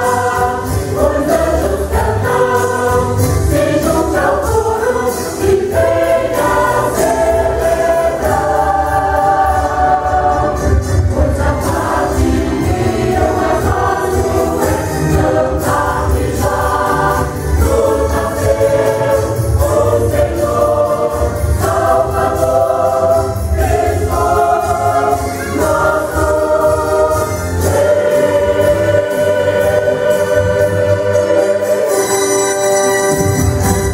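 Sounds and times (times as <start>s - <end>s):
mixed choir singing: 0.0s - 33.9s.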